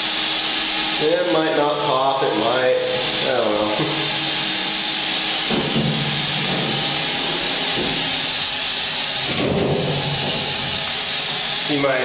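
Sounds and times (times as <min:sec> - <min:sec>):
air rushing hiss in metal tank: 0:00.0 - 0:12.0.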